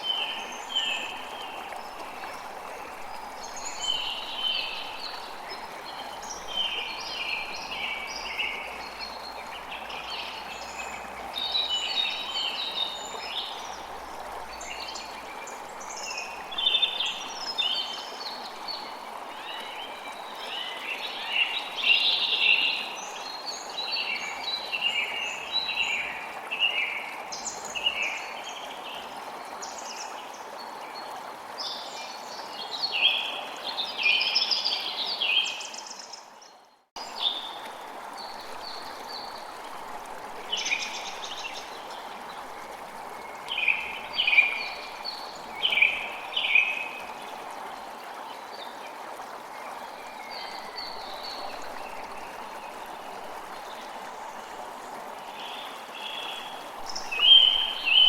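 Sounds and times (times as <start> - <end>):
flowing water rushing: 0.0 - 36.4, 37.0 - 58.0.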